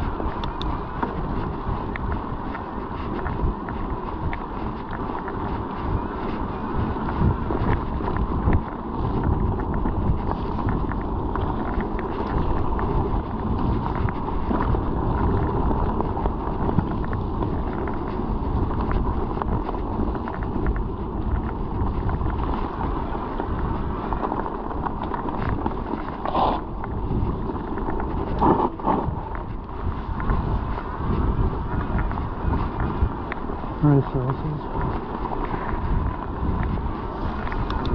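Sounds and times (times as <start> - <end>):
bike tyre noise: 0.0 - 37.9
wind buffeting microphone: 0.0 - 37.9.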